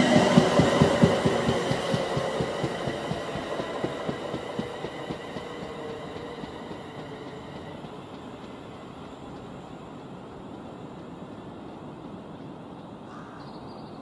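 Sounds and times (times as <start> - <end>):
wheels clicking over rail joints: 0.0 - 13.0
train running past: 0.0 - 13.2.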